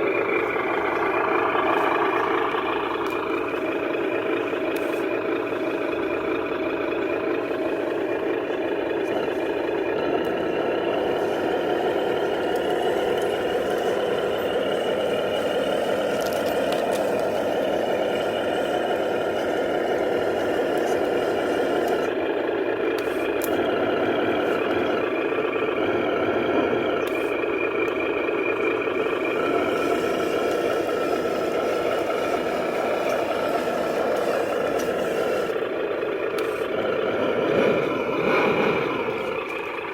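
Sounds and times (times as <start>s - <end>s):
remote-control truck whirring: 0.0s - 39.9s.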